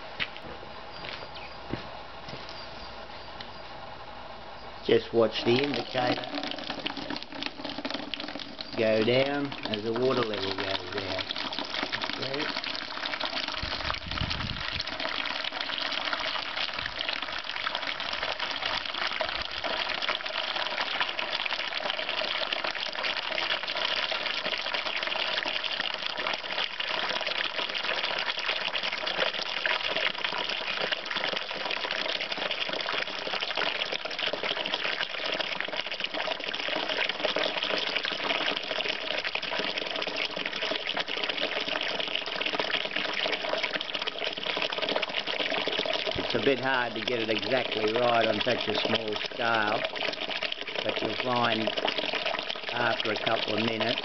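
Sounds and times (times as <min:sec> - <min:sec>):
water running from a tap: 0:05.4 - 0:54.0.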